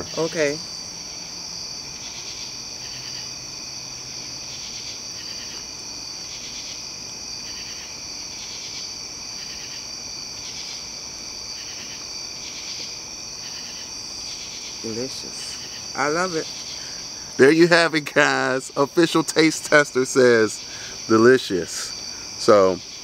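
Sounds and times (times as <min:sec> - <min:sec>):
high insect trill: 0:00.0 - 0:23.0
pulsed insect chirping: 0:00.0 - 0:23.0.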